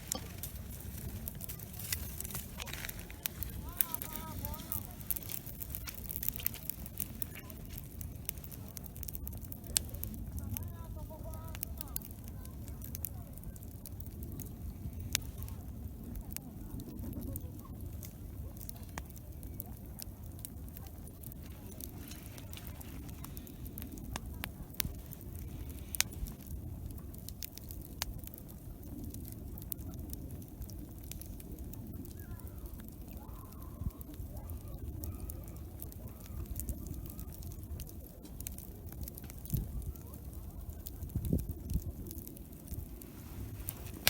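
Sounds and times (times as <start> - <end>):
campfire crackling and popping: 0.0 - 44.0
low background rumble: 0.0 - 44.0.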